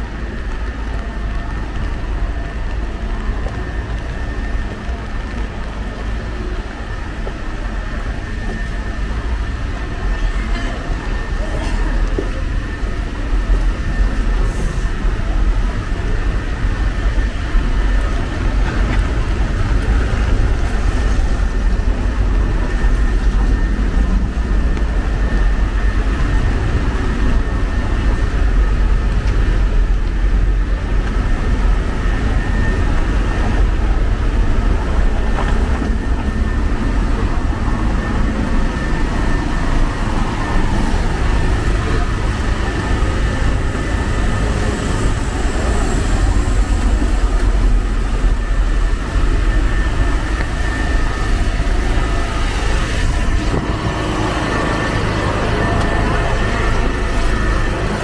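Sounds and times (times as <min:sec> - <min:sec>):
traffic rumble: 0:00.0 - 0:58.0
people's voices: 0:00.2 - 0:58.0.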